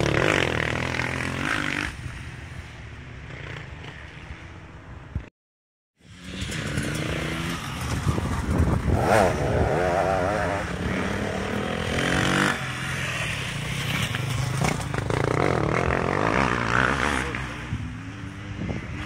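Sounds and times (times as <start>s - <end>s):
dirt bike engines revving: 0.0s - 5.0s, 6.0s - 19.0s.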